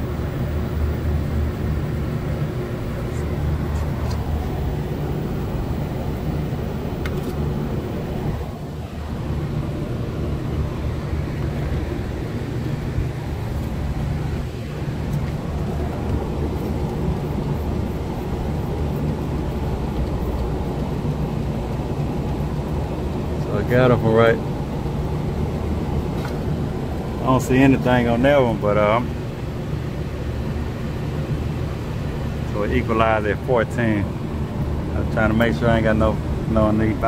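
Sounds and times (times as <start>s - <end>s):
machinery droning: 0.0s - 37.0s.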